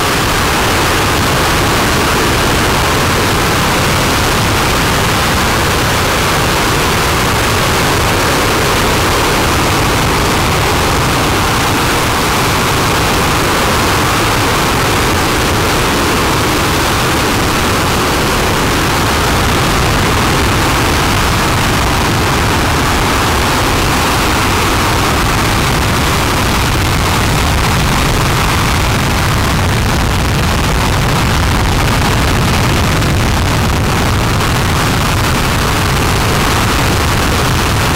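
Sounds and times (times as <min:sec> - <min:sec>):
rocket engine exhaust roar: 0:00.0 - 0:37.9.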